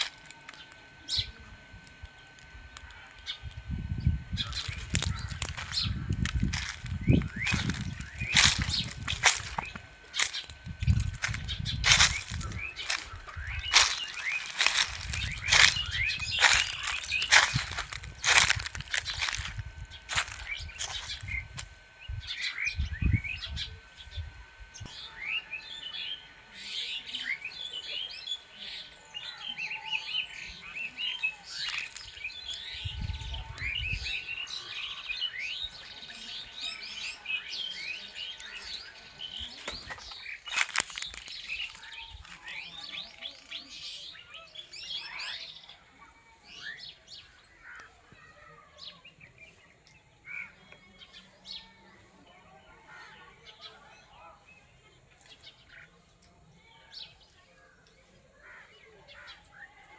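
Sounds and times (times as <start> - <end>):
birds chirping and trilling: 0.0 - 1.4, 2.0 - 59.9.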